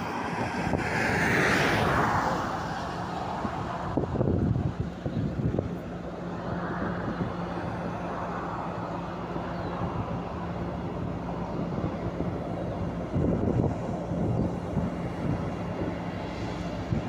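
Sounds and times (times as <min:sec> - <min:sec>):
locomotive diesel engine rumbling: 0:00.0 - 0:17.0.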